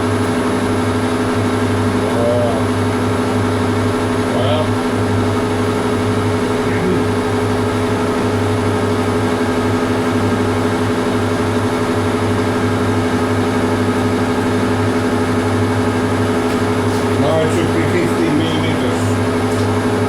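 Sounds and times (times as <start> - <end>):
lathe motor humming: 0.0 - 20.0.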